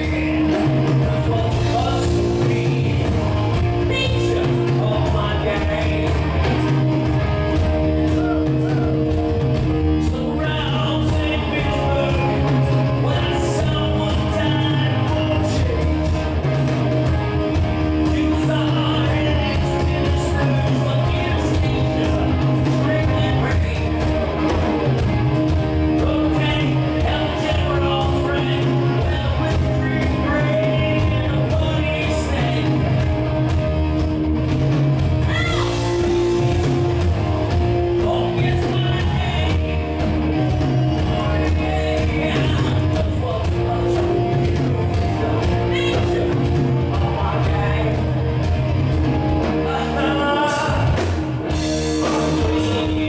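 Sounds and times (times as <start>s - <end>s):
lead singer: 0.0s - 53.0s
rock band playing live: 0.0s - 53.0s.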